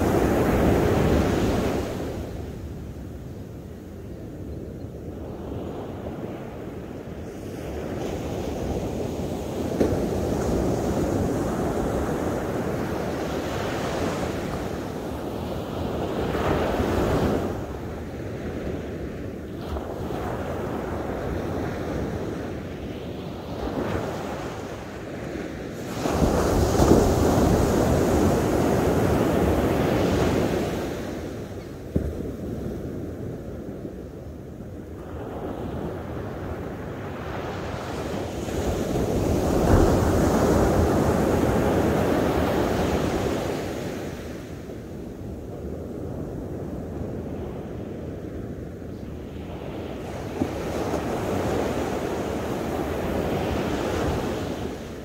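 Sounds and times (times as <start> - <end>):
ocean surf breaking on beach: 0.0 - 4.0, 5.1 - 55.0.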